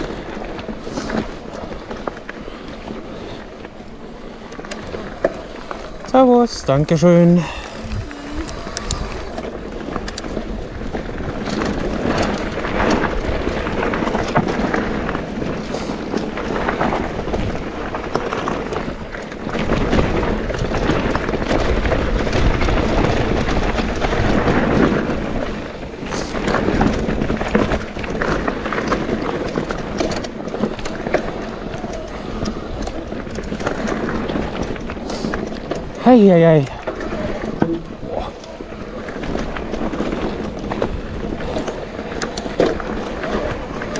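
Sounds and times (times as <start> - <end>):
bike rattling over bumps: 0.0 - 43.9
bike tyres on dirt: 0.0 - 43.9.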